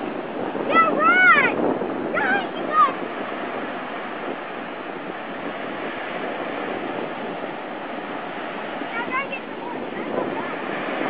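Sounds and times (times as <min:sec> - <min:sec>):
surf breaking on beach: 0:00.0 - 0:11.0.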